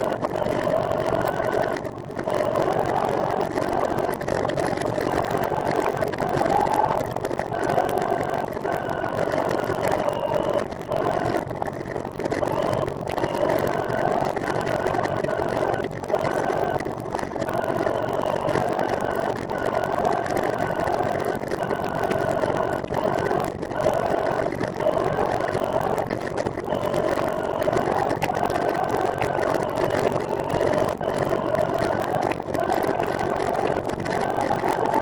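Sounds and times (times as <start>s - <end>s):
pitched whine: 0.0s - 11.4s, 12.3s - 35.0s.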